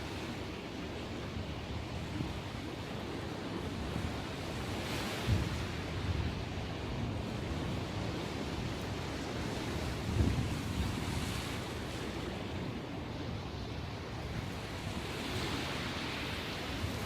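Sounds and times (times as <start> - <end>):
wind buffeting microphone: 0.6 - 17.0.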